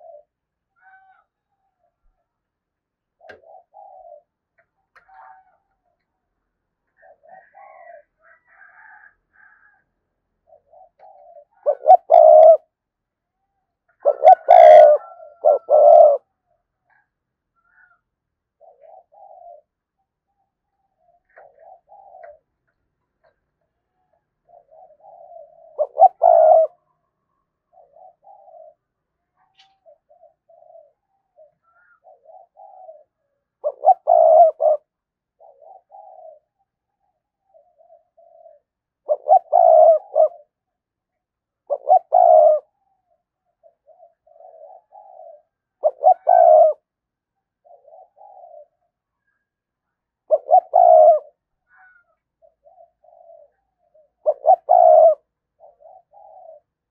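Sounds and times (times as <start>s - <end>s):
dove cooing: 0.0s - 2.3s, 3.2s - 6.1s, 6.9s - 12.8s, 13.9s - 40.8s, 41.6s - 49.6s, 50.2s - 56.9s.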